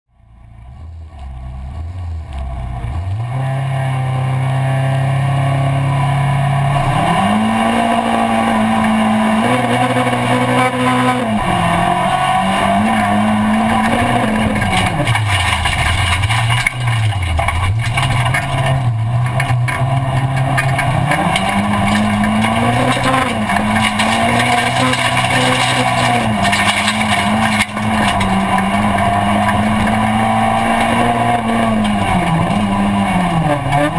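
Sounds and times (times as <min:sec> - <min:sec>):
race car engine revving: 0:00.3 - 0:33.9.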